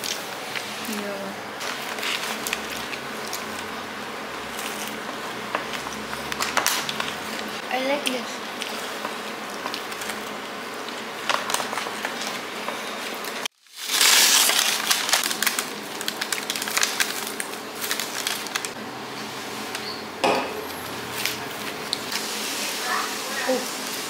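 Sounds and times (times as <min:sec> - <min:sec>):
paper wrappers crinkling: 0:00.0 - 0:18.8, 0:21.0 - 0:24.0.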